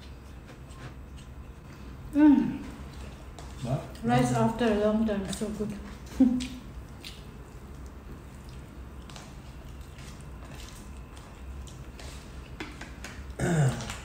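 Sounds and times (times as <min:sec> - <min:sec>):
low steady hum: 0:00.0 - 0:14.0
people chewing and eating: 0:00.0 - 0:14.0.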